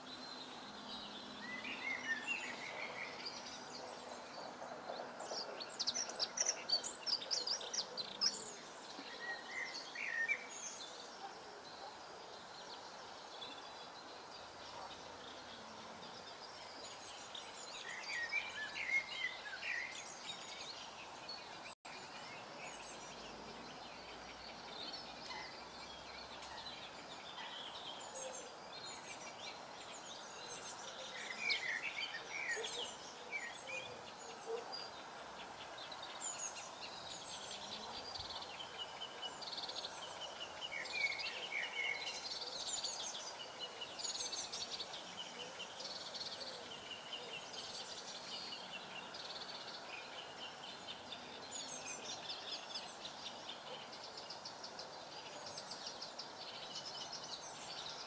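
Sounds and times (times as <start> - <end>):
wild birds singing and chirping: 0.0 - 58.0.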